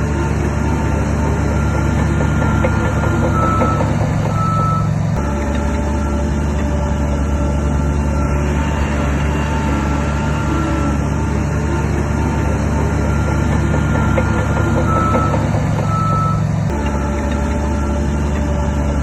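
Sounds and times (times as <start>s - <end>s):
heavy diesel machine engine: 0.0s - 19.0s
reversing alarm beeping: 0.6s - 19.0s.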